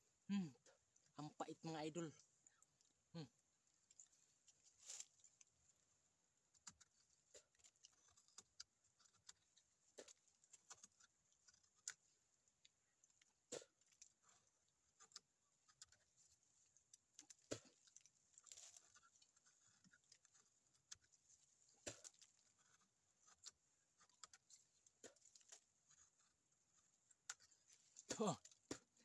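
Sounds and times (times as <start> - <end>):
teeth gnawing bark: 2.0 - 29.0.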